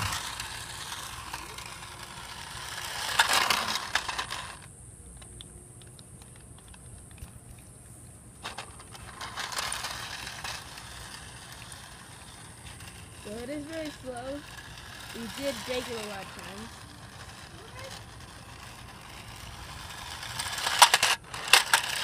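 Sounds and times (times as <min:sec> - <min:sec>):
toy car motor whirring: 0:00.0 - 0:07.3, 0:08.4 - 0:22.0.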